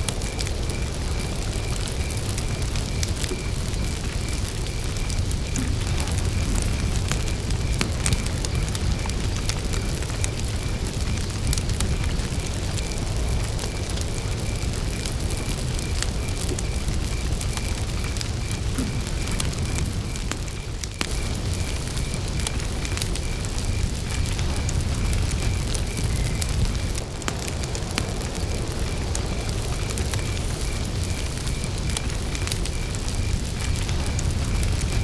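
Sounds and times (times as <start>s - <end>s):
campfire crackling and popping: 0.0s - 35.0s
cricket chirping: 0.0s - 35.0s.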